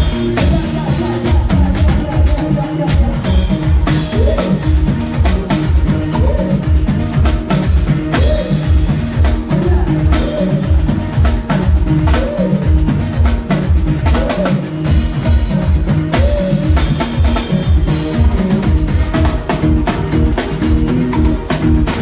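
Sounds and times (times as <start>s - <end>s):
drum kit playing: 0.0s - 22.0s
repeating bass line: 0.0s - 22.0s.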